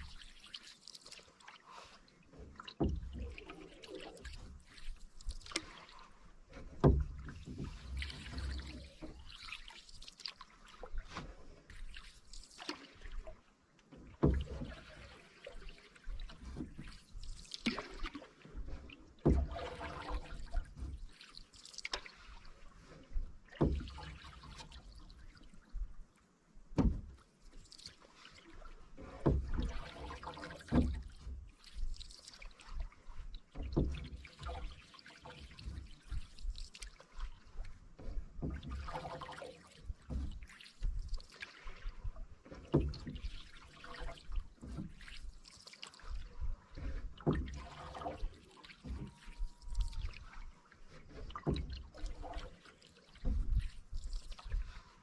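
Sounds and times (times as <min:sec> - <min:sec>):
water swishing and dripping: 0:00.0 - 0:55.0.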